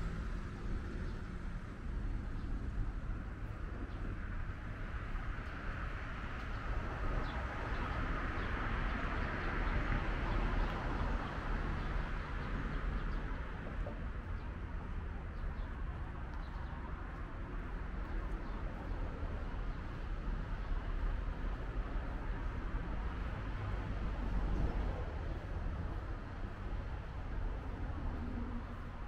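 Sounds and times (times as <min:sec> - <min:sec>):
street hum and hiss: 0:00.0 - 0:29.0.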